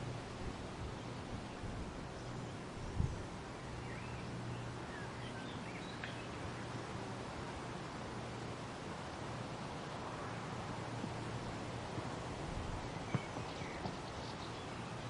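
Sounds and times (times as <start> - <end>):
wind rustling through leaves: 0.0 - 15.0.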